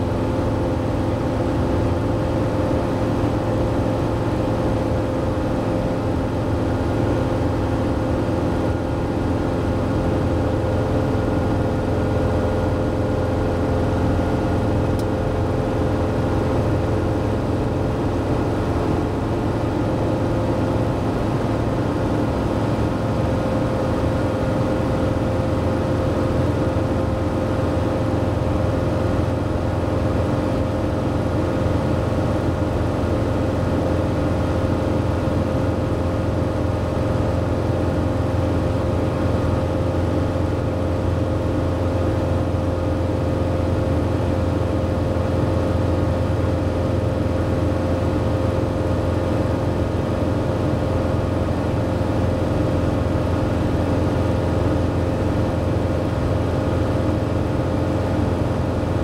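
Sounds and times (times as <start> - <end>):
constant hum: 0.0 - 59.0
light aircraft engine droning: 0.0 - 59.0.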